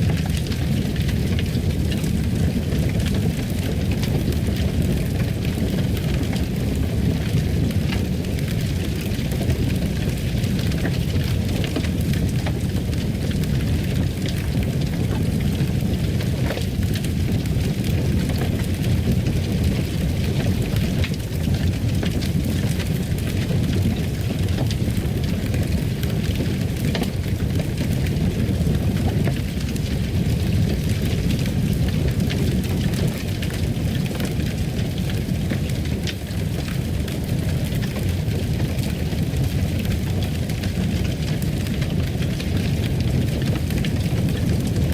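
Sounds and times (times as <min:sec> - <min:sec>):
fire crackling: 0:00.0 - 0:44.9
low fire rumble: 0:00.0 - 0:44.9.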